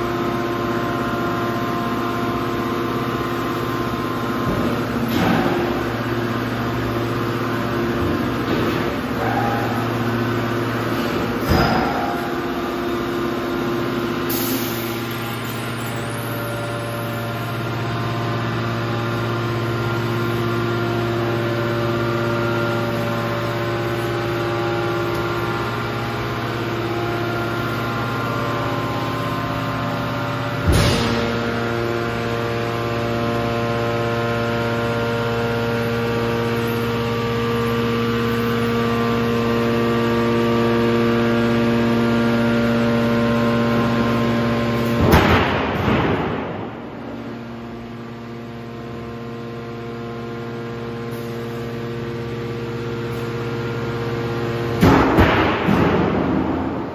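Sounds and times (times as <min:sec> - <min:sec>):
hydraulic baling machine hum: 0:00.0 - 0:56.9.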